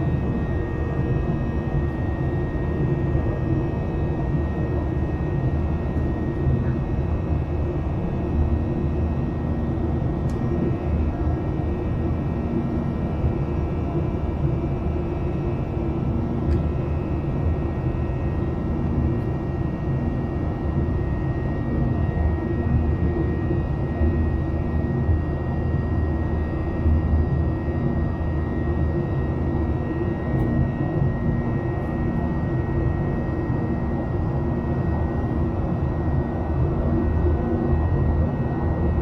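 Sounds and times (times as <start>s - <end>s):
faint engine whine: 0.0s - 39.0s
jet engine rumble in cabin: 0.0s - 39.0s.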